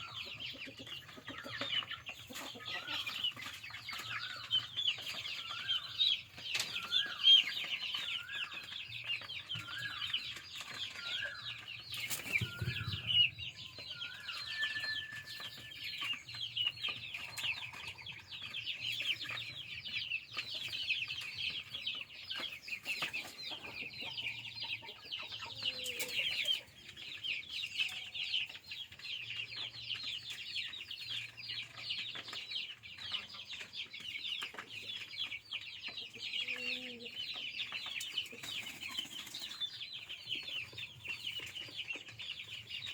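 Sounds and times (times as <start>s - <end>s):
chickens clucking and peeping: 0.0s - 42.9s.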